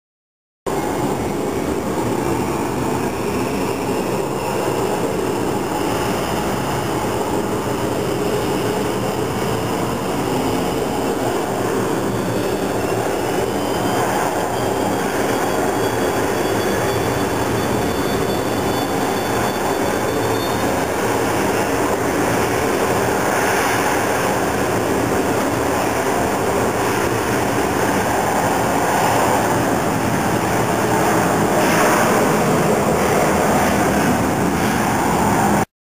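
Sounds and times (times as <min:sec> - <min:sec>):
jet engines roaring: 0:00.7 - 0:35.7
turbine whine: 0:00.7 - 0:35.7.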